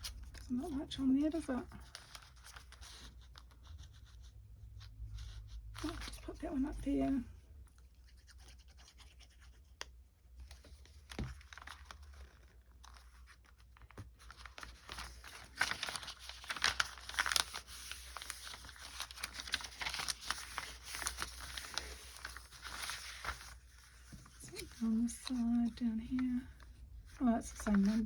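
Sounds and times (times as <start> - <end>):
paper rustling and crinkling: 0.0 - 4.2, 5.1 - 9.3, 10.4 - 28.0.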